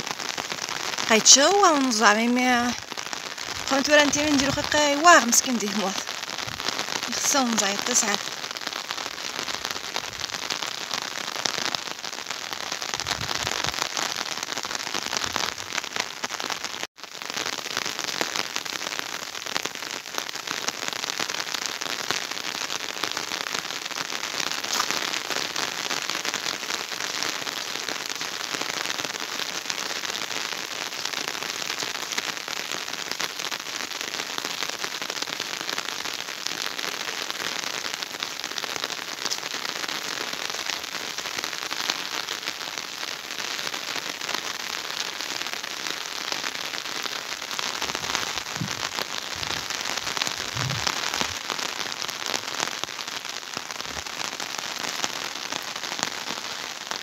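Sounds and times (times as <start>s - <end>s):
rain pattering on ground: 0.0s - 57.0s.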